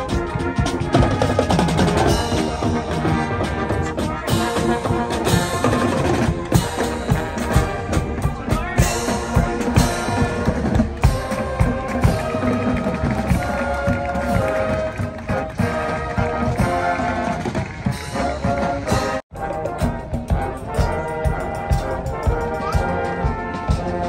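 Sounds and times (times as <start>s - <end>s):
brass band chords: 0.0s - 24.0s
steady drum beat: 0.0s - 24.0s.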